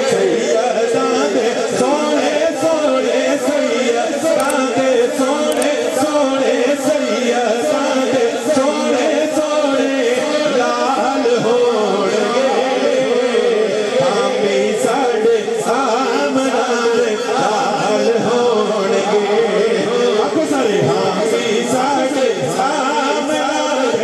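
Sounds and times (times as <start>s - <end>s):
man singing into a microphone: 0.0s - 24.0s
voices singing a drone: 0.0s - 24.0s.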